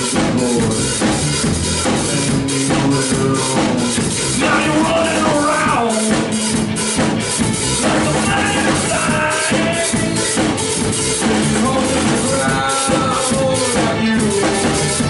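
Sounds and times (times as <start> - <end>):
drum kit beat: 0.0 - 15.0
rock band playing: 0.0 - 15.0.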